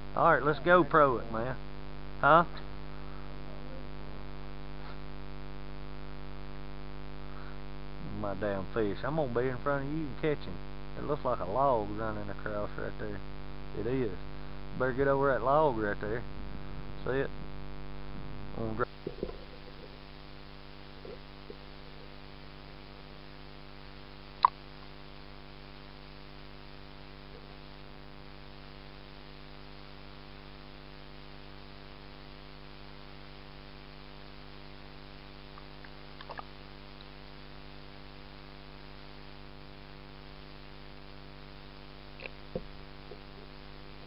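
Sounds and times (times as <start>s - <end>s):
electrical hum: 0.0s - 44.0s.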